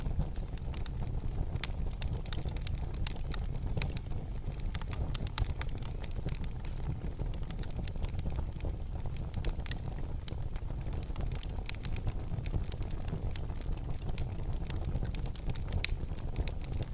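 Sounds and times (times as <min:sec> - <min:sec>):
campfire crackling: 0:00.0 - 0:16.9.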